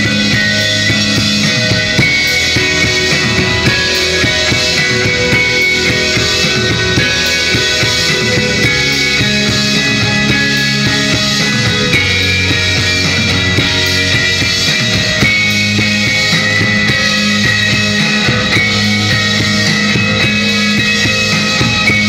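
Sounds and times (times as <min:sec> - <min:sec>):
bass notes: 0:00.0 - 0:22.0
drumming: 0:00.0 - 0:22.0
electric guitars: 0:00.0 - 0:22.0.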